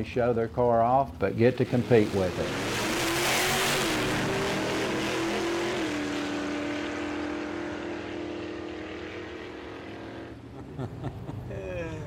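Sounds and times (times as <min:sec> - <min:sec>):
race car engine at full throttle: 0:01.5 - 0:11.3.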